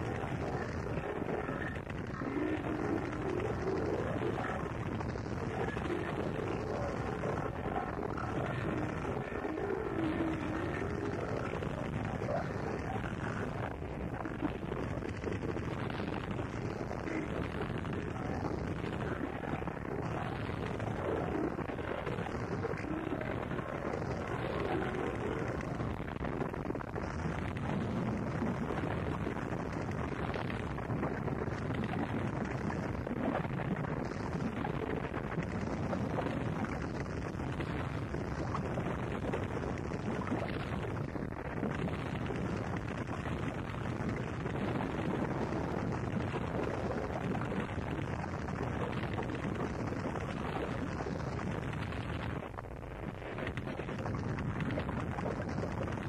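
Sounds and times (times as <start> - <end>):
distorted wall of noise: 0.0 - 56.0.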